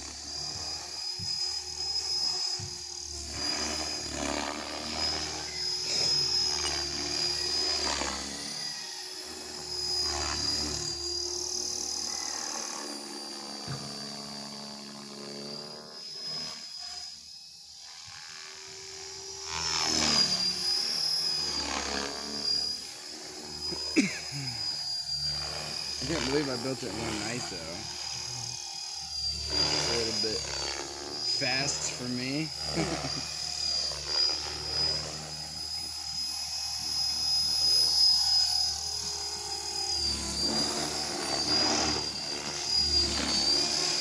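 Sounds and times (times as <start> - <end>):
rc helicopter rotor whine: 0.0 - 44.0.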